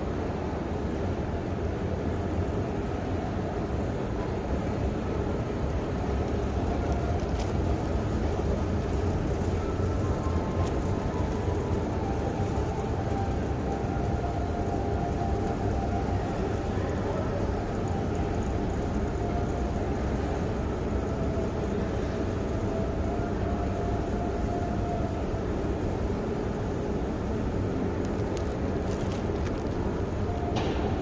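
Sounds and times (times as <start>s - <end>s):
escalator low rumble: 0.0s - 31.0s
faint whining tones: 3.8s - 31.0s.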